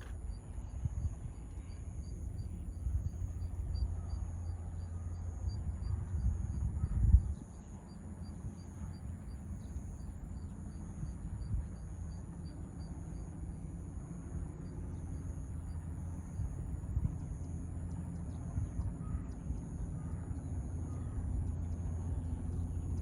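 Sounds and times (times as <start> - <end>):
helicopter rumble: 0.0 - 23.0.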